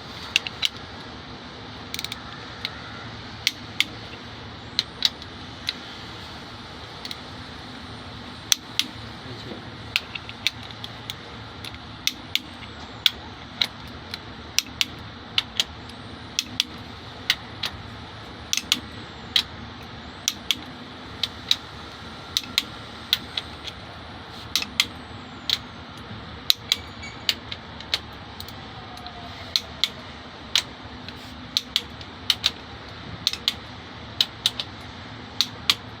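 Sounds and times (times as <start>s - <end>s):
steady hum: 0.0s - 36.0s
metal tools clicking on engine parts: 0.2s - 1.1s, 1.8s - 5.9s, 7.0s - 7.5s, 8.4s - 36.0s.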